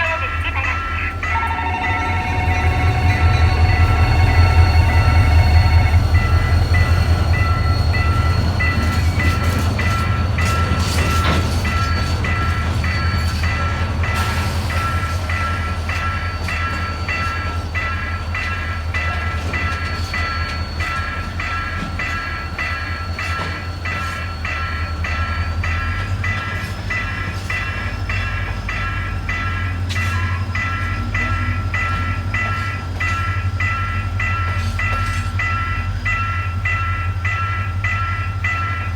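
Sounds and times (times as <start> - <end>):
level-crossing bell ringing: 0.0 - 38.9
train rumbling: 0.0 - 38.9.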